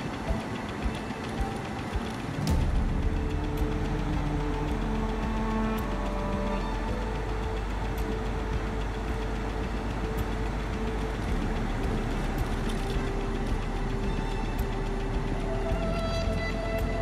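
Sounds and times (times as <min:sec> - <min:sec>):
car engine drone: 0:00.0 - 0:17.0
road and tyre noise: 0:00.0 - 0:17.0.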